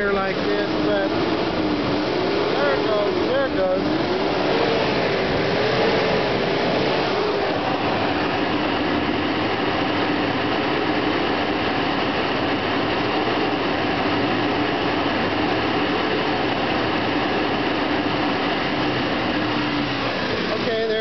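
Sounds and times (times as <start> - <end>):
engine running: 0.0 - 21.0
fan rushing air: 0.0 - 21.0
low wavering hum: 0.0 - 21.0.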